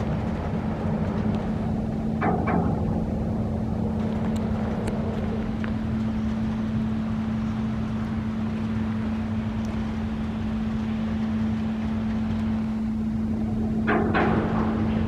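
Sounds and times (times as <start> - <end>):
even rumble: 0.0 - 15.0
low mechanical hum: 0.0 - 15.0.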